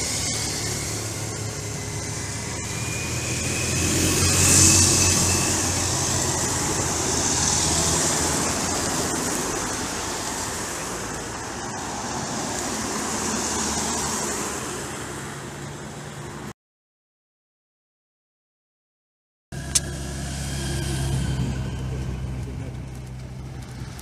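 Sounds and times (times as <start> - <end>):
cars passing on a road: 0.0 - 16.6, 19.6 - 24.0.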